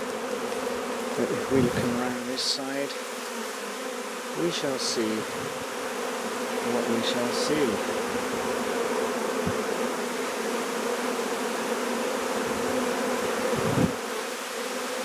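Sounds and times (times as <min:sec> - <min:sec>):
bee flying past: 0:00.0 - 0:15.0
bees buzzing: 0:00.0 - 0:15.0.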